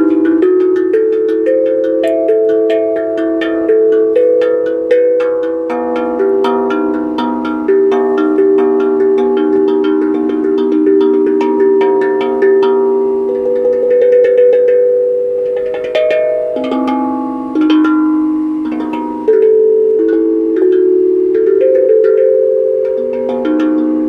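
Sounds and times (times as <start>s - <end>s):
tuned metal percussion melody: 0.0s - 24.0s.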